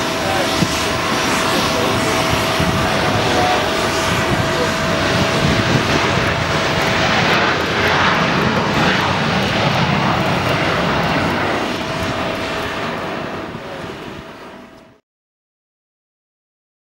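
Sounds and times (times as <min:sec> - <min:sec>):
jet rolling on wet runway: 0:00.0 - 0:14.6
jet engines at takeoff: 0:00.0 - 0:15.0.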